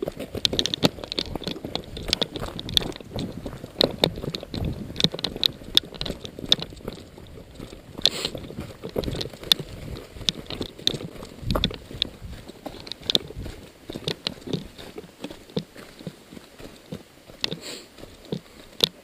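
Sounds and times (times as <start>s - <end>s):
footsteps on rough ground: 0.0s - 19.0s
gear rustling and clicking: 0.0s - 19.0s.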